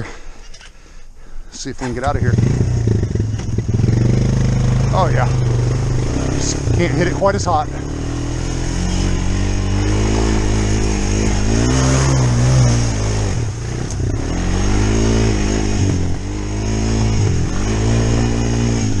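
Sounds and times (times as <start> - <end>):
atv engine revving: 1.8 - 19.0.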